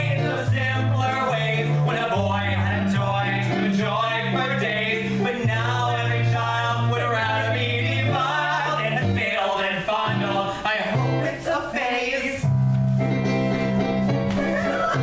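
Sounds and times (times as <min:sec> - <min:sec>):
men singing a show tune: 0:00.0 - 0:12.5
keyboard: 0:00.0 - 0:15.0.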